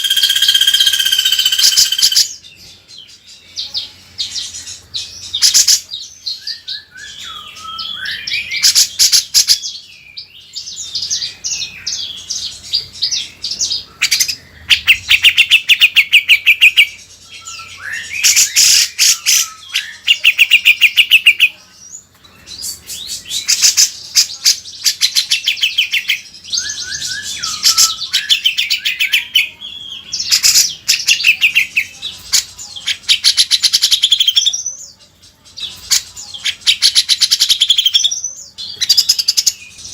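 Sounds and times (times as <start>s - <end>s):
bulbul singing trills and whistles: 0.0s - 39.9s.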